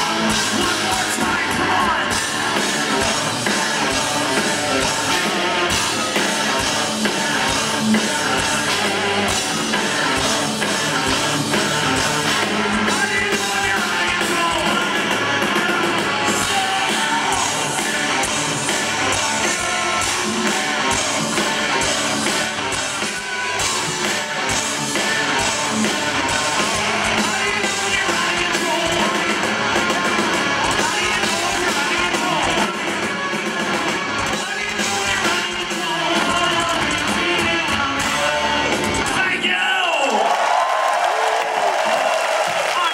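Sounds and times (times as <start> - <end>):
electric guitars: 0.0 - 39.4
person singing: 0.0 - 39.4
drums: 0.0 - 42.9.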